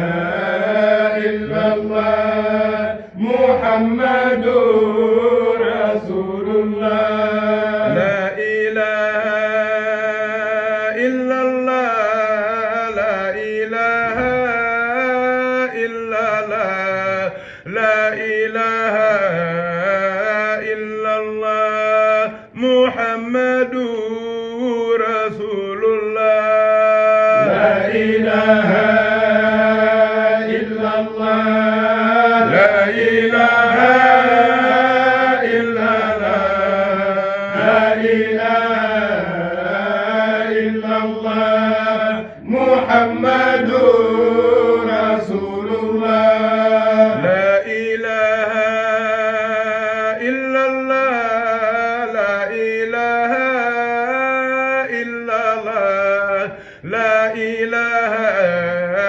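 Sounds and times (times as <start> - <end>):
voices singing devotional chant: 0.0 - 59.0.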